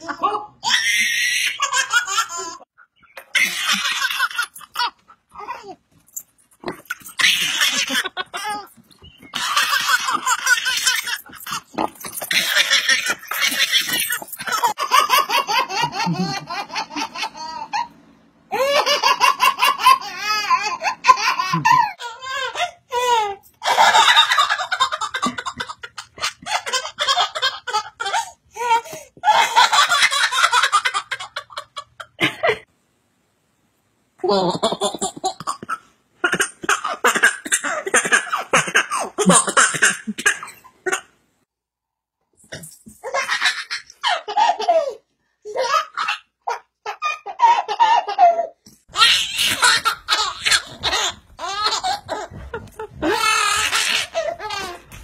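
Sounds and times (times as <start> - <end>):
baby belly laughing: 0.0 - 5.8, 6.6 - 32.7, 42.5 - 55.0.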